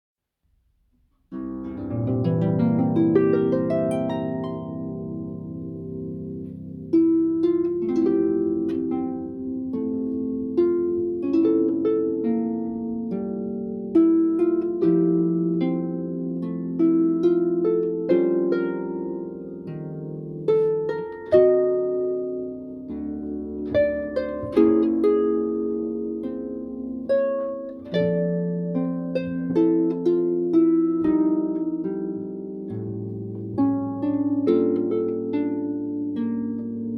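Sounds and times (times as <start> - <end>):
plucked string melody: 1.3 - 36.9.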